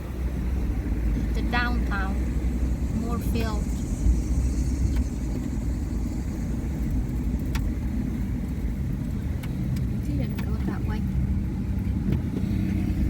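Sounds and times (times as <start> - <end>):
car driving heard from inside: 0.0 - 13.0.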